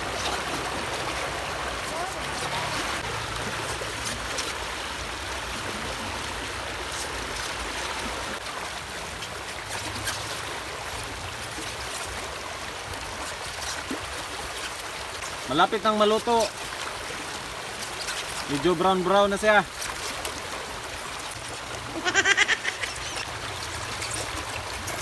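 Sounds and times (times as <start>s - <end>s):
river rushing over rocks: 0.0s - 25.0s
small water splashes: 0.0s - 25.0s.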